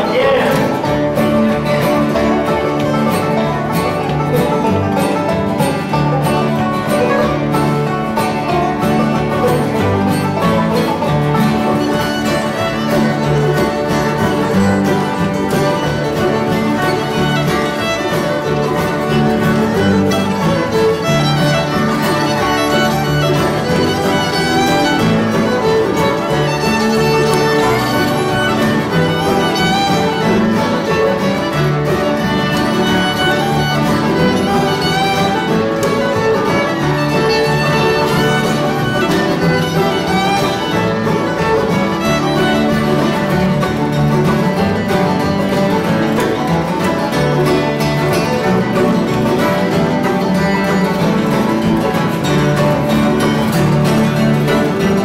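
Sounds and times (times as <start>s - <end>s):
fiddle melody: 0.0s - 55.0s
strummed acoustic guitar: 0.0s - 55.0s
upright bass: 0.0s - 55.0s.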